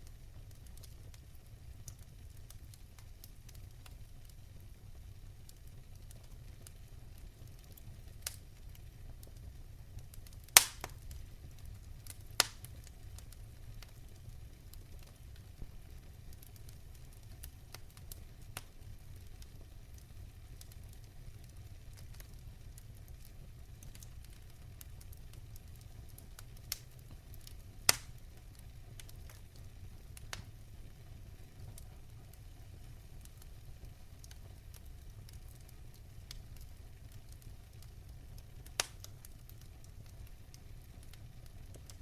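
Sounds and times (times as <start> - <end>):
fireplace fire crackling: 0.0 - 42.0
fire pops: 5.4 - 42.0.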